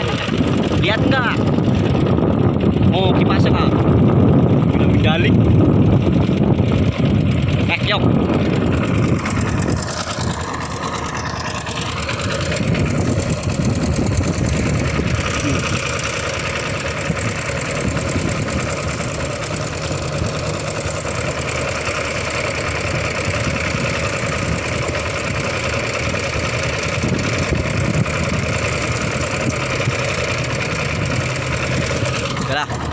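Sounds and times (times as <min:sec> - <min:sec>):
boat engine droning: 0:00.0 - 0:32.9.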